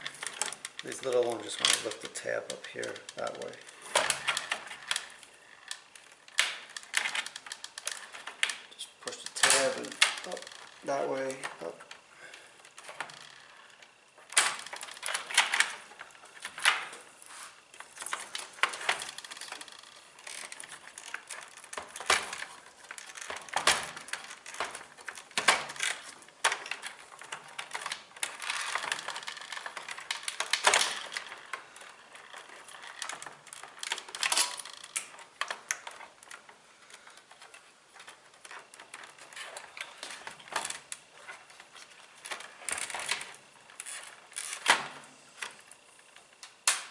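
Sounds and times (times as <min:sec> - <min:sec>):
plastic and metal parts clicking: 0:00.0 - 0:17.0, 0:17.6 - 0:46.9.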